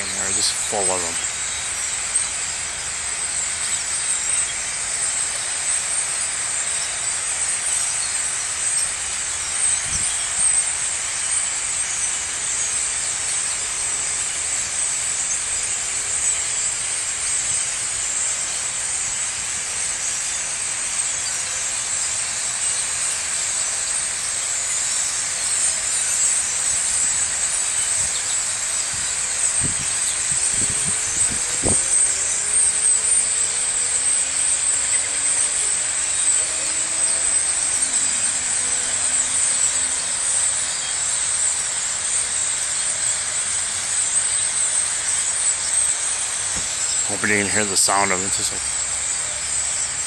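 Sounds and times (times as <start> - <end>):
flock of birds chattering: 0.0 - 50.0.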